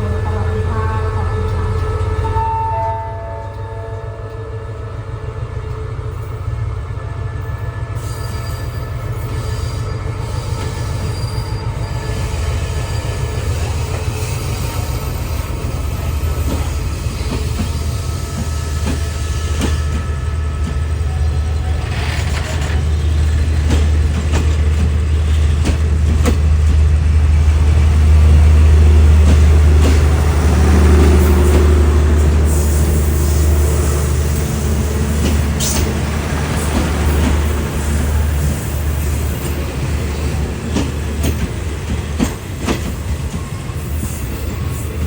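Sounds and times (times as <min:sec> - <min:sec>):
train engine rumble: 0:00.0 - 0:45.0.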